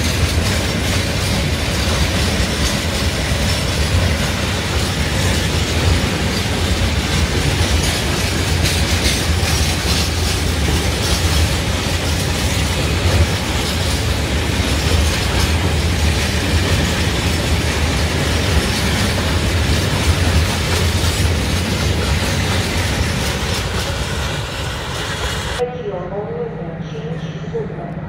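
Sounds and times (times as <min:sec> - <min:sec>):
train wheels rumbling on rails: 0:00.0 - 0:25.6.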